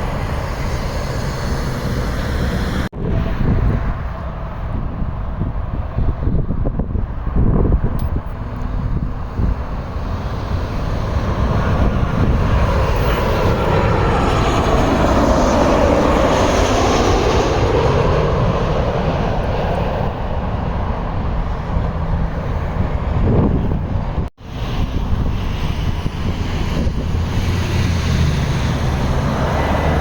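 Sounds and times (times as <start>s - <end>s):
airliner engines passing: 0.0s - 30.0s
wind rumble on microphone: 0.0s - 30.0s.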